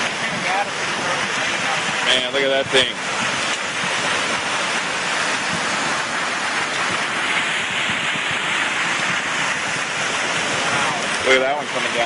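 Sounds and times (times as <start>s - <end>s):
torrent of rushing water: 0.0s - 12.0s.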